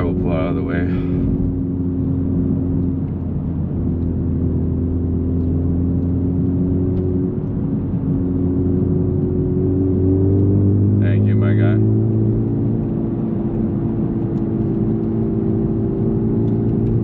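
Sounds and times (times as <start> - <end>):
car engine hum while driving: 0.0 - 17.0.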